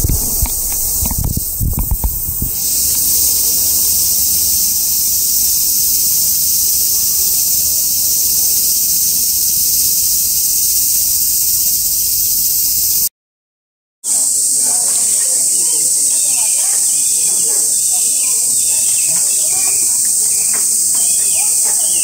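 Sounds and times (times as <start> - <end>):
cicadas shrilling: 0.0 - 13.1, 14.0 - 22.0.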